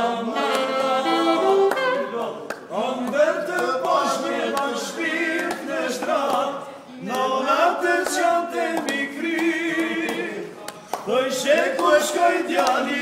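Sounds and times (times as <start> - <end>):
men singing together: 0.0 - 13.0.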